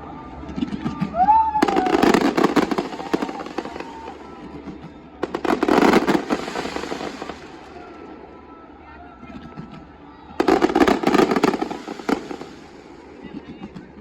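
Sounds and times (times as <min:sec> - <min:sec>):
fireworks crackling volleys: 0:00.3 - 0:08.8, 0:09.5 - 0:14.0.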